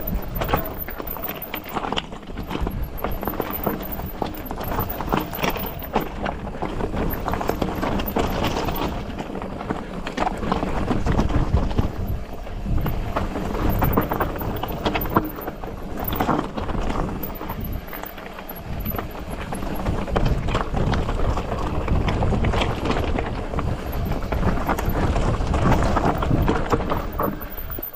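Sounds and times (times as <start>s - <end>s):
bike rattling: 0.0s - 27.9s
bike tyres crunching on gravel: 0.0s - 27.9s
wheels knocking on rocks: 0.0s - 27.9s.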